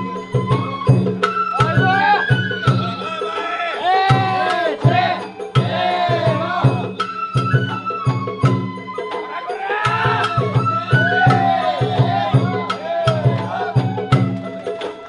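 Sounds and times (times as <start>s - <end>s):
high festival melody: 0.0s - 15.0s.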